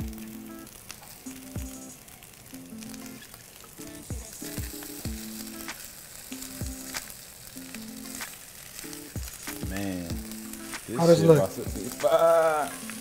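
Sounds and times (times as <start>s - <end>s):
background music with a beat: 0.0s - 2.0s, 2.6s - 3.2s, 3.8s - 13.0s
food sizzling in a skillet: 0.0s - 13.0s.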